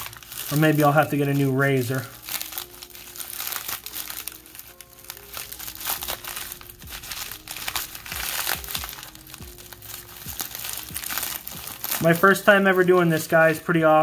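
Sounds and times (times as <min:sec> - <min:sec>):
bubble wrap crackling: 0:00.0 - 0:14.0
quiet background music: 0:00.0 - 0:14.0.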